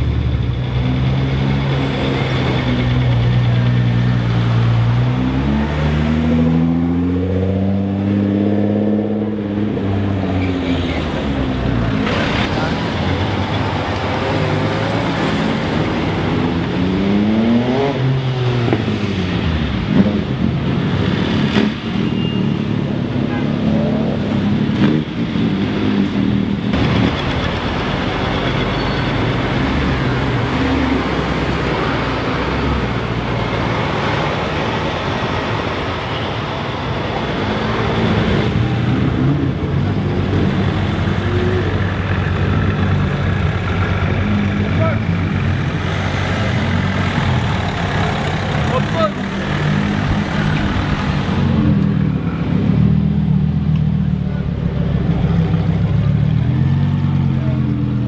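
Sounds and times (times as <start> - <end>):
cars driving past: 0.0 - 58.0
street noise: 0.0 - 58.0.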